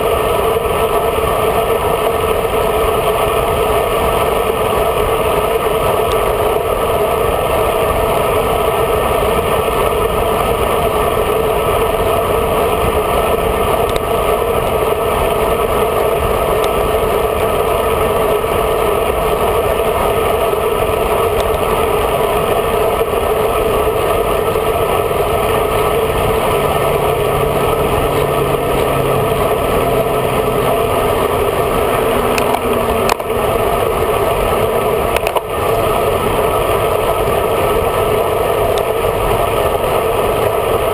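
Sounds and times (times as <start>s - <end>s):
bicycle tyre and road noise: 0.0s - 40.9s
wind buffeting camera: 0.2s - 40.9s.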